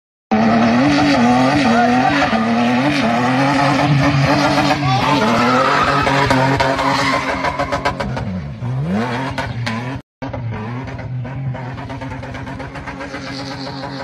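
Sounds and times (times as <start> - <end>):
car engine revving high: 0.3 - 14.0
tyres skidding on loose ground: 0.6 - 14.0.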